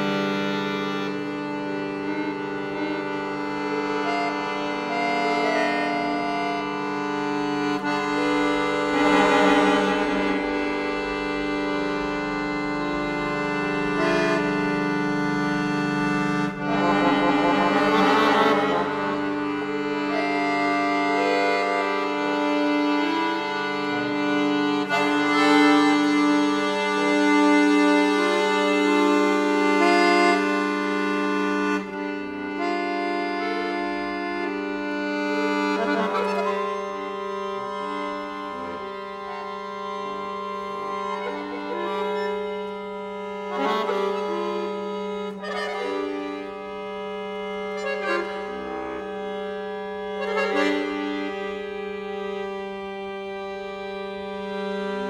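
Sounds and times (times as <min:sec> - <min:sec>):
accordion chords and runs: 0:00.0 - 0:55.0.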